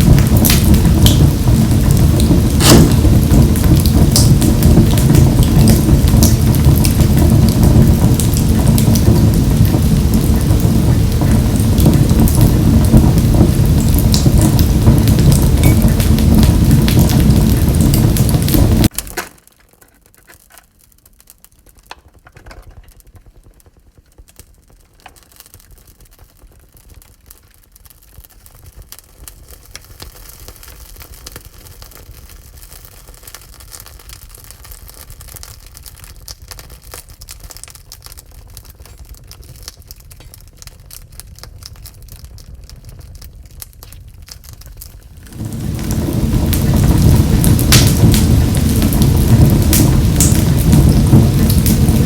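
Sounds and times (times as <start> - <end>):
wood fire crackling in a stove: 0.0 - 52.0.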